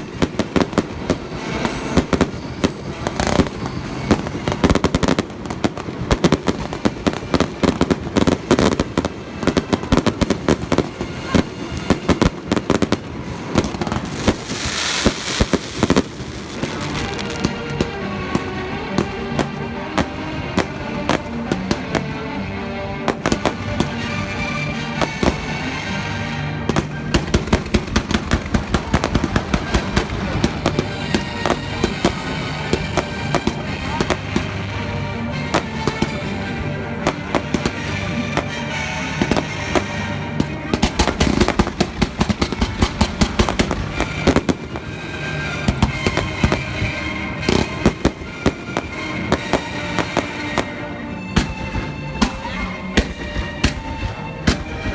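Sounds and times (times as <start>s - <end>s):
fireworks bursting and crackling: 0.0s - 54.9s
music playing: 0.0s - 54.9s.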